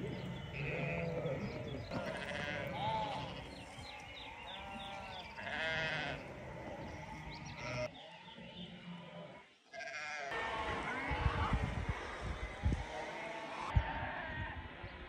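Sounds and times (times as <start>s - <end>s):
sheep bleating: 0.0s - 11.8s, 12.8s - 14.9s.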